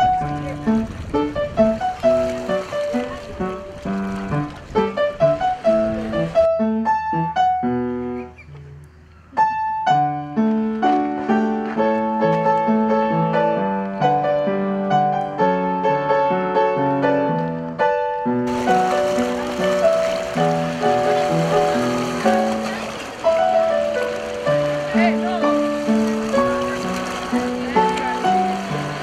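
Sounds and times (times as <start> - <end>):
solo piano piece: 0.0 - 29.0.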